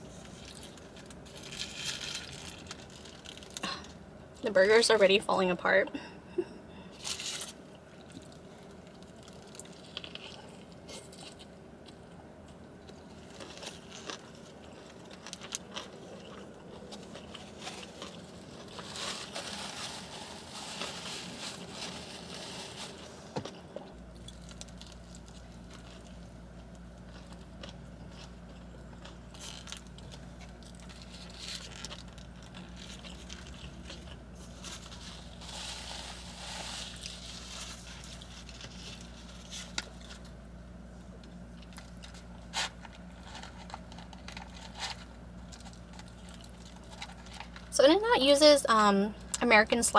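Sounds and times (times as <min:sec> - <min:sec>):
burger being chewed: 0:00.0 - 0:04.1, 0:06.8 - 0:47.7
low steady hum: 0:00.0 - 0:49.9.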